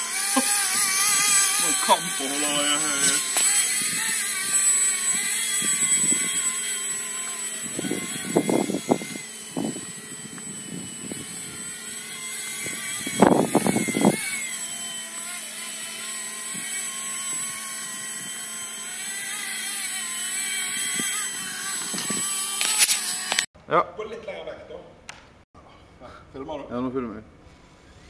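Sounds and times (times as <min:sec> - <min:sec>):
rc helicopter high-pitched whine: 0:00.0 - 0:23.5.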